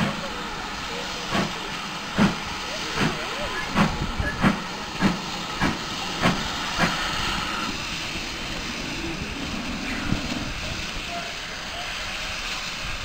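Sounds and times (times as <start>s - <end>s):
steam hissing: 0.0s - 13.0s
steam locomotive exhaust chuffing: 0.0s - 13.0s.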